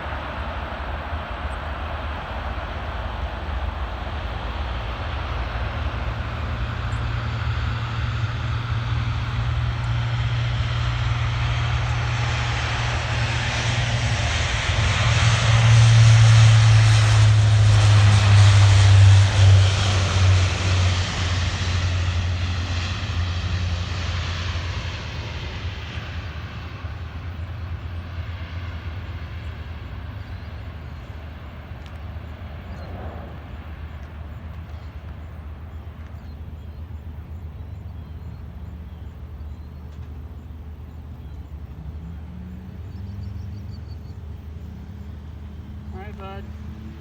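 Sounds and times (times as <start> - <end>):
propeller aircraft engine drone: 0.0 - 47.0.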